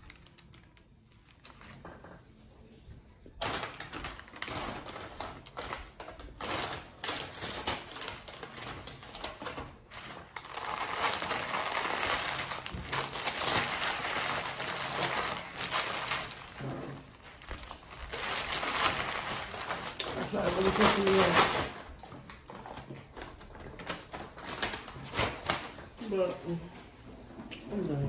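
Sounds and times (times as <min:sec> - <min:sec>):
paper crinkling and rustling: 0:00.0 - 0:27.0.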